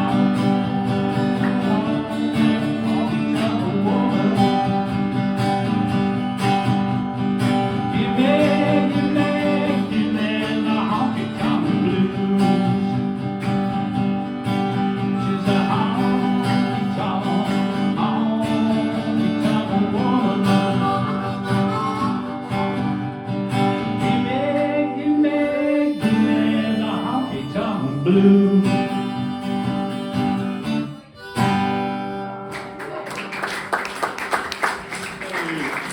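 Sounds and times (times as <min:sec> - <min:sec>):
acoustic guitar strumming: 0:00.0 - 0:33.1
sliding guitar lead line: 0:00.0 - 0:33.3.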